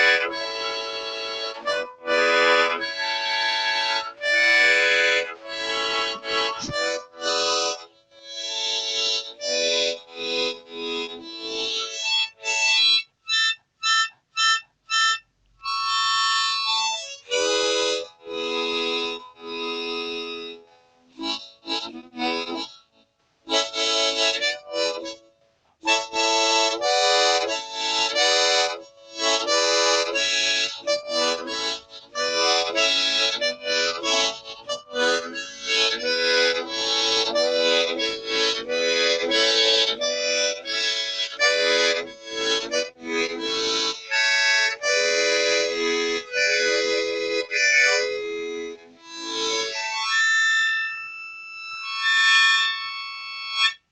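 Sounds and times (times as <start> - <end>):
harmonica-like chords: 0.0 - 53.9.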